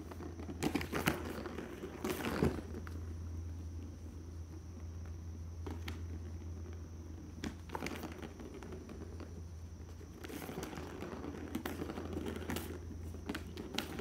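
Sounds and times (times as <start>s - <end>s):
rustling and crinkling: 0.0s - 14.0s
steady low hum: 0.0s - 14.0s.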